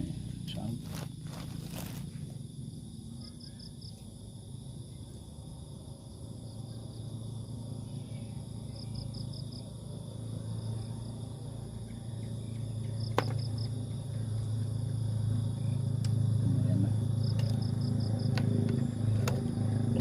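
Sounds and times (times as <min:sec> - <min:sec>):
crickets chirping: 0:00.0 - 0:20.0
insects droning: 0:00.0 - 0:20.0
low steady hum: 0:00.0 - 0:20.0.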